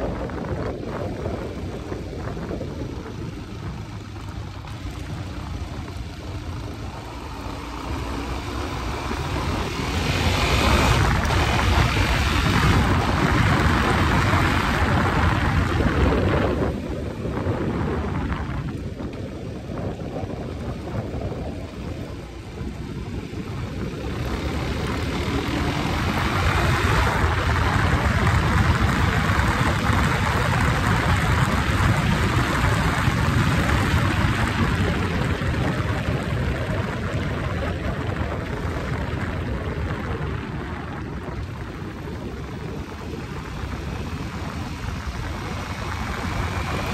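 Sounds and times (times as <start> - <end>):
motorcycle engine running: 0.0 - 46.9
wind rushing: 0.0 - 46.9.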